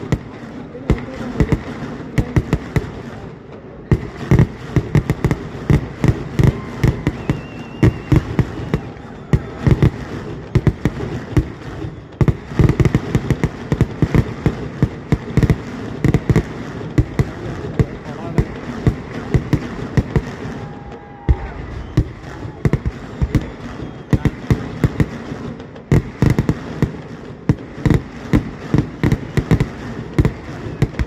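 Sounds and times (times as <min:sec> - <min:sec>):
fireworks explosions: 0:00.0 - 0:31.0.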